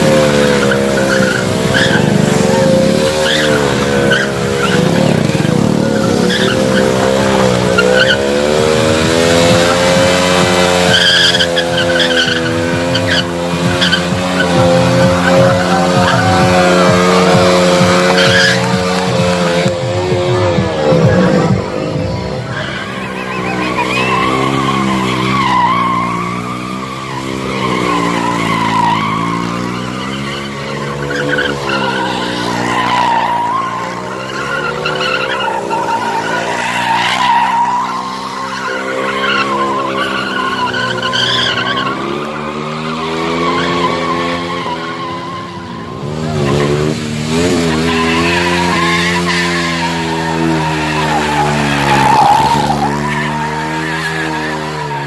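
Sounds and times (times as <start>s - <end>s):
motorcycle engine revving: 0.0s - 55.0s
tyres screeching: 0.0s - 55.0s.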